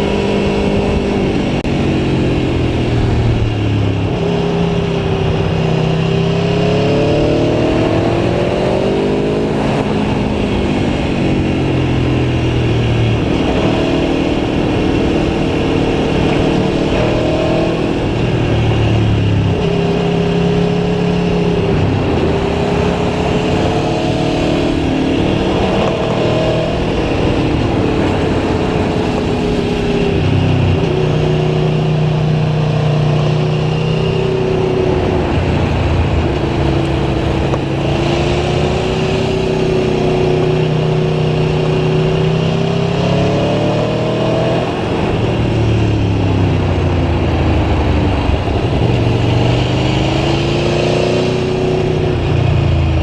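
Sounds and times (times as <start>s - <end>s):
motorcycle engine accelerating: 0.0s - 53.0s
wind and road noise: 0.0s - 53.0s.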